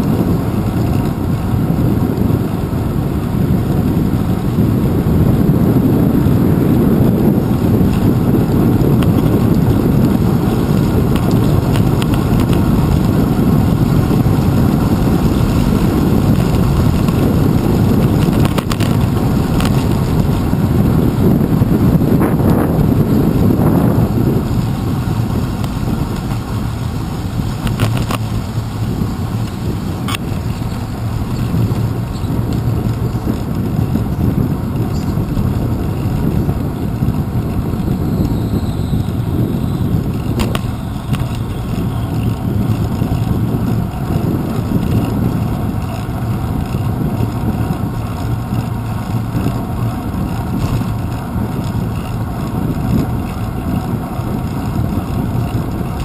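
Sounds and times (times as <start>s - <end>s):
bicycle rolling on pavement: 0.0s - 56.0s.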